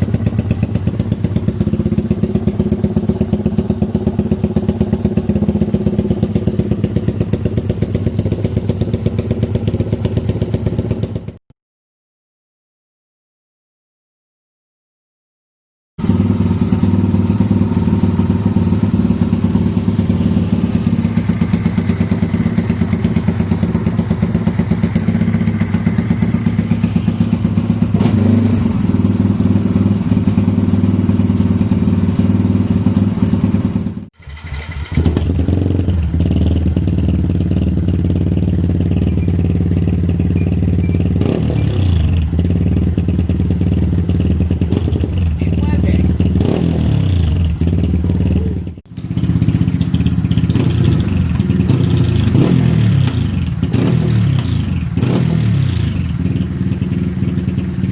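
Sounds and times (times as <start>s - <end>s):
motorcycle engine idling: 0.0s - 11.4s, 16.0s - 57.9s.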